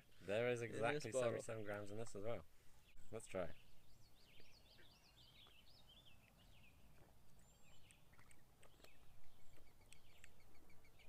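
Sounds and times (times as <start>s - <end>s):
faint birdsong chirping: 0.0s - 11.0s.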